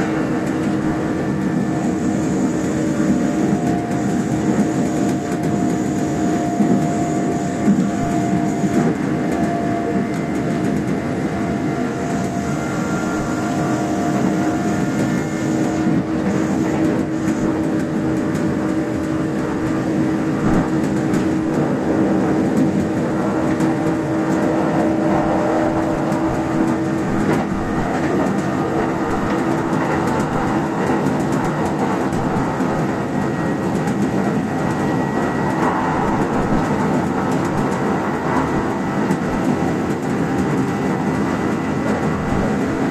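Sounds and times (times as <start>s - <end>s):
train motor whine: 0.0s - 42.9s
train wheels rumbling on rails: 0.0s - 42.9s.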